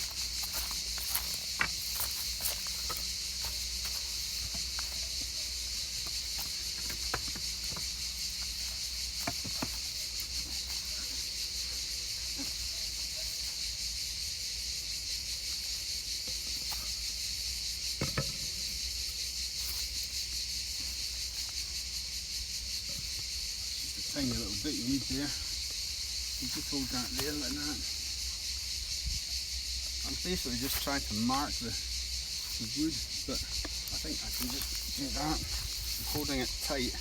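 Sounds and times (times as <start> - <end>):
high-pitched hiss: 0.0 - 37.0.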